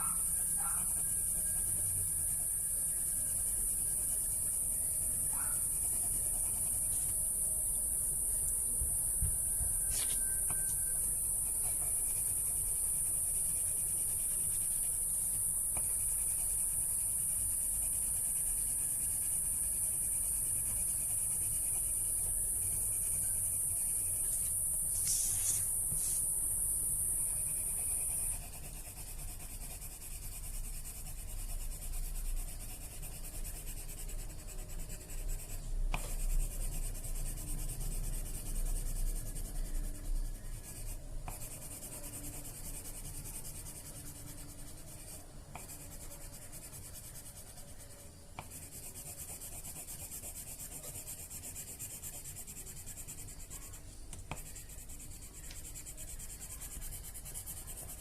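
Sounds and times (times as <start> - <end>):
pencil scratching on paper: 0.0 - 8.4, 9.7 - 26.4, 27.1 - 58.0.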